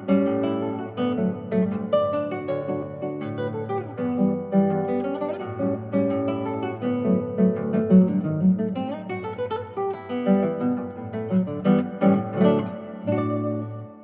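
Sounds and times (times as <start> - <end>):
classical guitar fingerstyle: 0.0 - 14.0.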